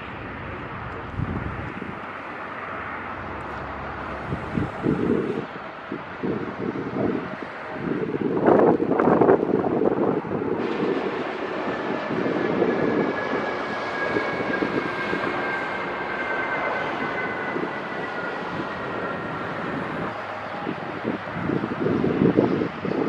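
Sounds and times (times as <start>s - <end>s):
jet aircraft flying past: 0.0s - 23.0s.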